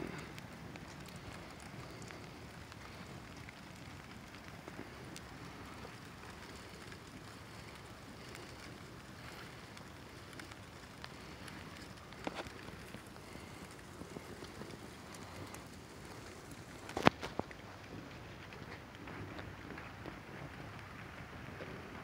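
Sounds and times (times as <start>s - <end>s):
fire burning: 0.0s - 22.0s
fire crackling and popping: 0.0s - 22.0s.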